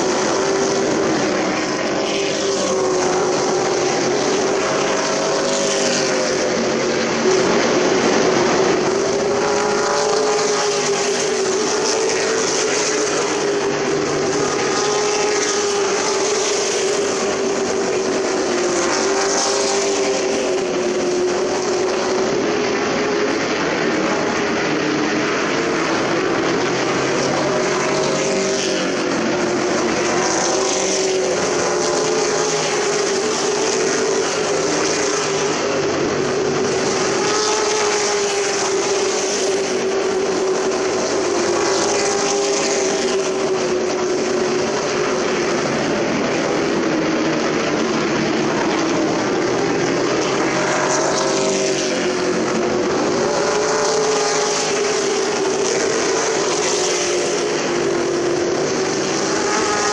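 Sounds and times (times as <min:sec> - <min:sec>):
truck engines racing past: 0:00.0 - 0:59.9.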